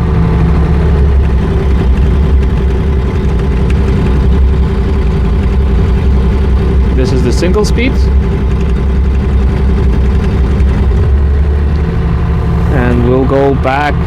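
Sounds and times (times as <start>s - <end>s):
excavator engine hum: 0.0s - 14.0s
steady whine: 0.0s - 14.0s.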